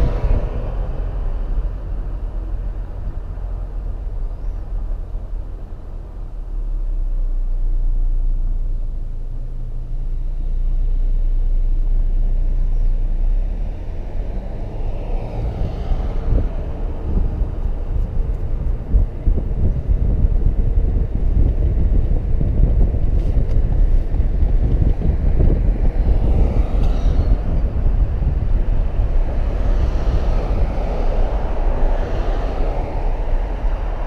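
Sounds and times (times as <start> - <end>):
car driving rumble: 0.0 - 34.0
traffic noise: 0.0 - 34.0.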